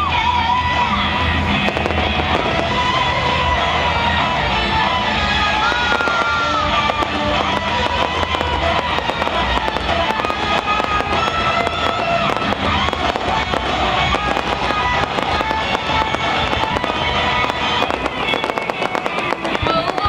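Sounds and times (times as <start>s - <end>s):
fireworks popping and crackling: 0.0s - 20.0s
loud music: 0.0s - 20.0s.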